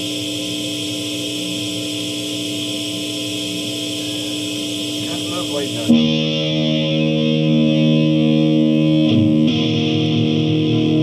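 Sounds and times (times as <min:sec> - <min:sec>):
guitar amplifier hum and hiss: 0:00.0 - 0:11.0.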